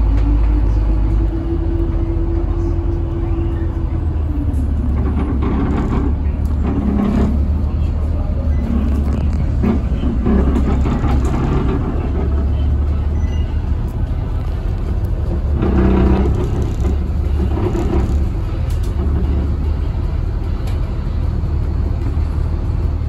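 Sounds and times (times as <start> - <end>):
bus diesel engine rumble: 0.0 - 23.0.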